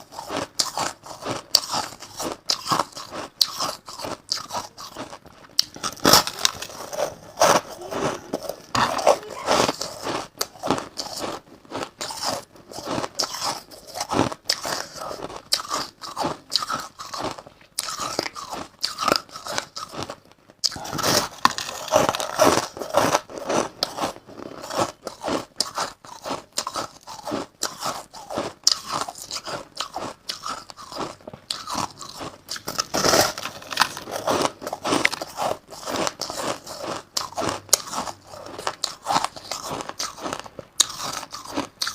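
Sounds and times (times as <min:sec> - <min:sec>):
ice crunching being chewed: 0:00.0 - 0:41.9.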